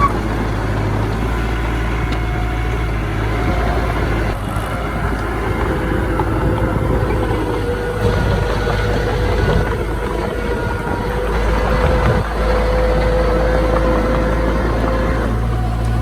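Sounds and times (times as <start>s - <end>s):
diesel engine rumble and whine: 0.0s - 16.0s.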